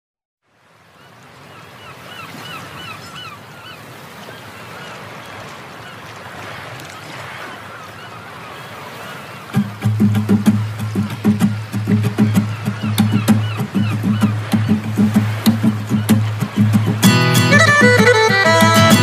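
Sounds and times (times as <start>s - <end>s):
surf washing: 0.4s - 19.0s
birds calling: 1.0s - 6.2s, 6.8s - 19.0s.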